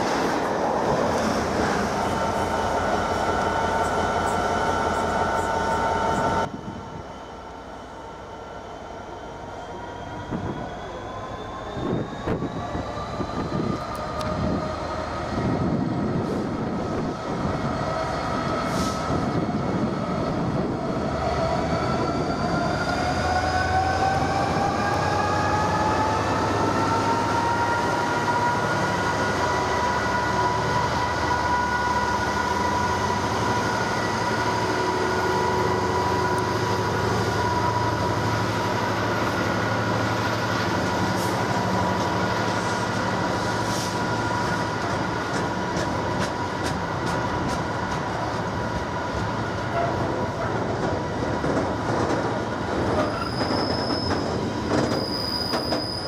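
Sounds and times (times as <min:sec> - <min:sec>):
train rumble: 0:09.6 - 0:56.0.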